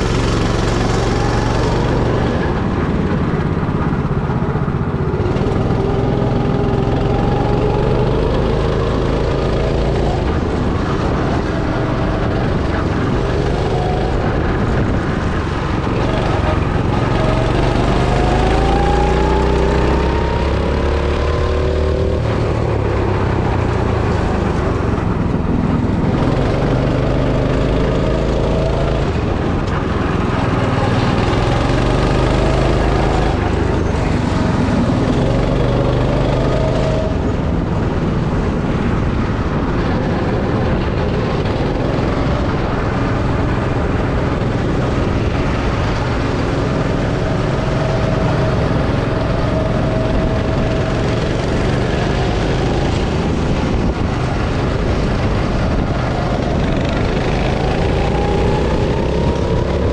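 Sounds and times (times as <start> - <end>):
constant rushing noise: 0.0 - 59.9
go-kart engine accelerating: 0.0 - 59.9.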